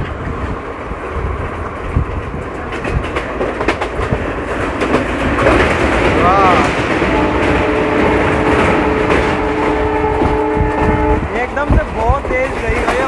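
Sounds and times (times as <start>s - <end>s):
train wheels rumbling on track: 0.0s - 13.0s
wheels clicking over rail joints: 0.0s - 13.0s.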